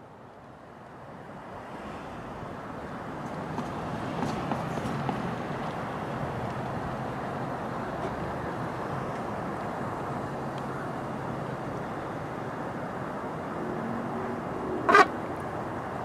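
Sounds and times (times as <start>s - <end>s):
distant road traffic: 0.0s - 16.0s.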